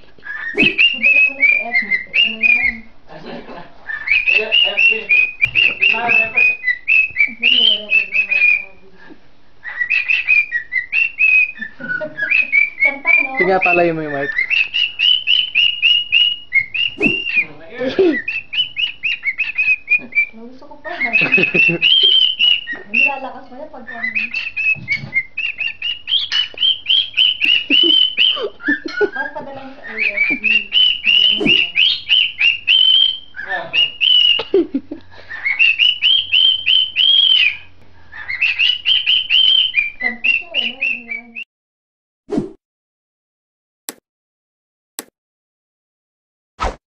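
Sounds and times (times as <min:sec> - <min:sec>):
cockatiel whistling: 0:00.2 - 0:02.9, 0:03.9 - 0:08.8, 0:09.6 - 0:34.6, 0:35.3 - 0:41.4
bird chattering notes: 0:00.3 - 0:02.9, 0:03.9 - 0:08.7, 0:09.7 - 0:34.6, 0:35.3 - 0:41.4.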